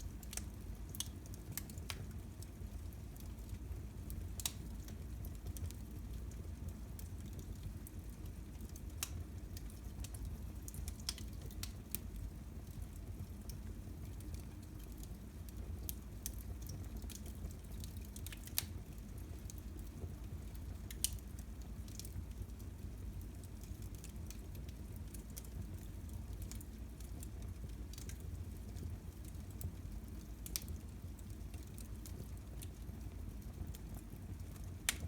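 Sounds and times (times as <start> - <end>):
fire crackles and pops: 0.0 - 35.0
fire low rumble: 0.0 - 35.0.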